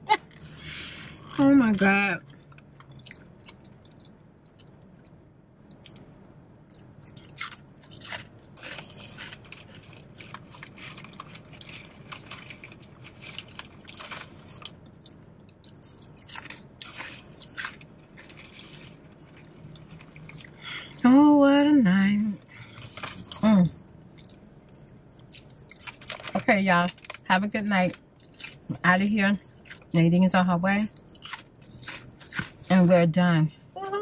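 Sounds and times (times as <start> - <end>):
chewing crunchy chips: 0.2 - 21.0, 22.5 - 23.4, 24.1 - 27.2, 27.9 - 28.8, 29.4 - 30.0, 30.8 - 32.7.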